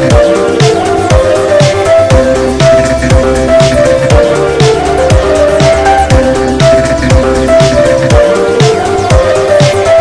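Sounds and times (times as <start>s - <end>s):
synth melody: 0.0s - 10.0s.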